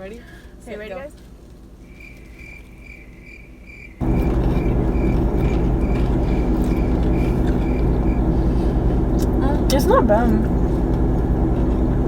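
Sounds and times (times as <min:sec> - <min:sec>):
low rumble with hum: 0:00.0 - 0:12.0.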